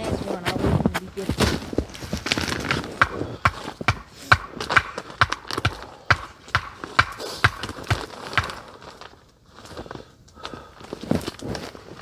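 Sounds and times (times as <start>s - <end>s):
blows driving a stake: 0.0s - 11.9s.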